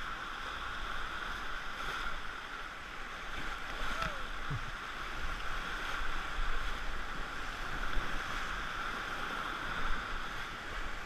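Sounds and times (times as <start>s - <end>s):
water rushing in rapids: 0.0s - 11.0s.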